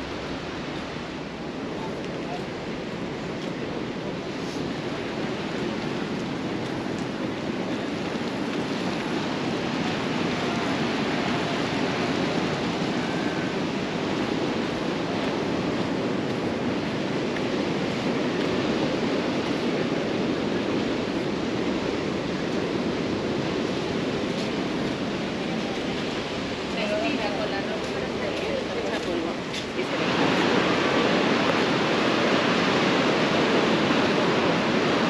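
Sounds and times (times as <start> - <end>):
sea surf rushing: 0.0 - 35.0.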